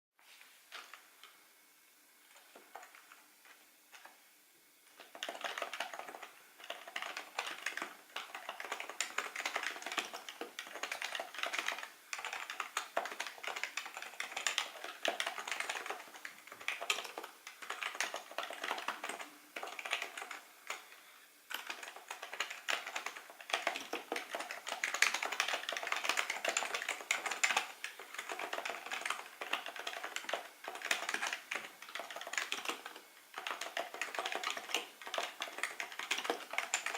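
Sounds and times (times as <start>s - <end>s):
soft muted keyboard typing: 0.7s - 1.4s, 2.3s - 4.2s, 4.9s - 36.9s.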